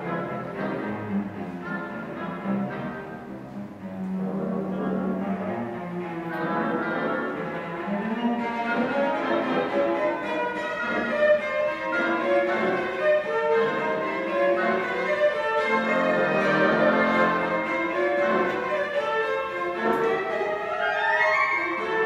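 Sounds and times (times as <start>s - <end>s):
solo cello: 0.0s - 22.0s
symphony orchestra: 0.0s - 22.0s.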